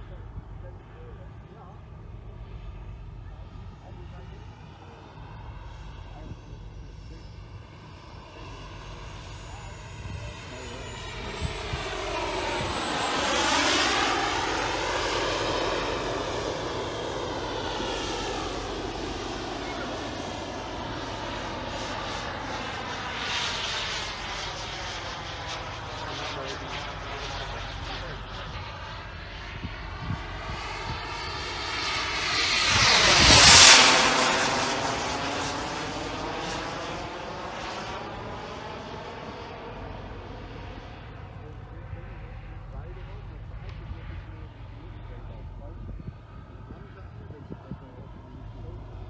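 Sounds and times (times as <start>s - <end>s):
model jet turbine whine: 0.0s - 49.0s.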